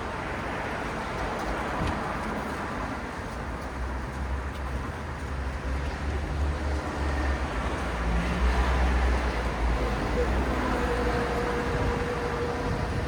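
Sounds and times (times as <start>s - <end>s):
cars passing: 0.1s - 13.0s.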